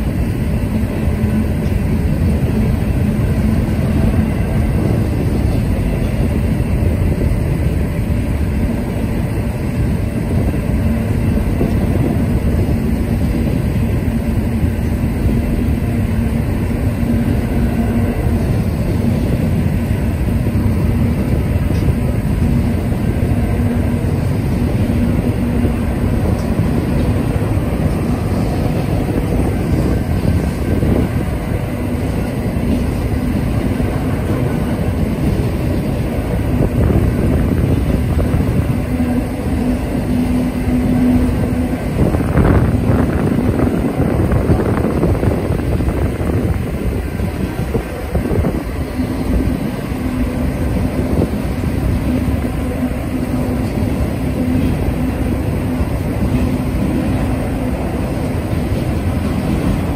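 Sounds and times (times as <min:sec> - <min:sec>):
freight train cars rolling: 0:00.0 - 0:59.9.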